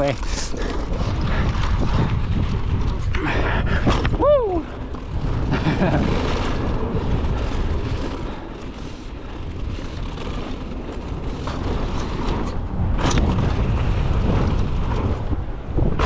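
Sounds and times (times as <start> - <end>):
bike tyres on dirt trail: 0.0 - 16.0
wind buffeting microphone: 0.0 - 16.0.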